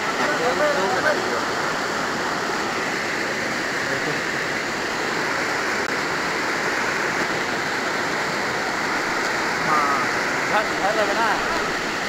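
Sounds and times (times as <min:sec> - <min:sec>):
floodwater rushing in a stream: 0:00.0 - 0:12.0.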